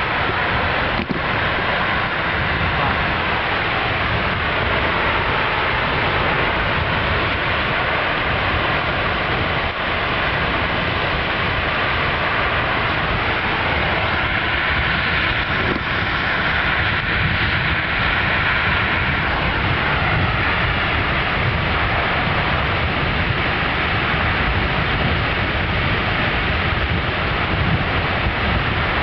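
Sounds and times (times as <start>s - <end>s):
geyser roaring: 0.0s - 29.0s.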